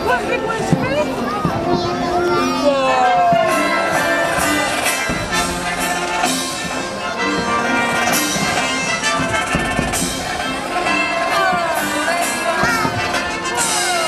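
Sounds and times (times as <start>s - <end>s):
fireworks bursting: 0.0s - 14.0s
loud music with drums: 0.0s - 14.0s.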